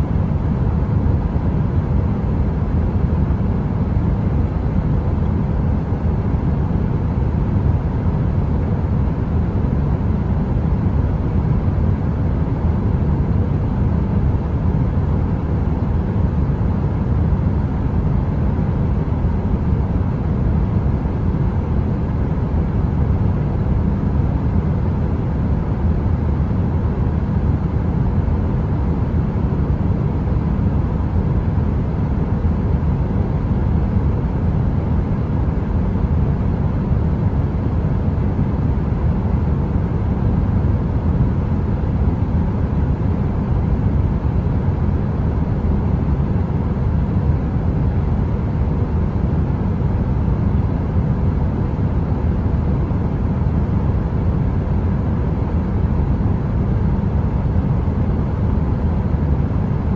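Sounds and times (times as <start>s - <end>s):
faint hum: 0.0s - 59.9s.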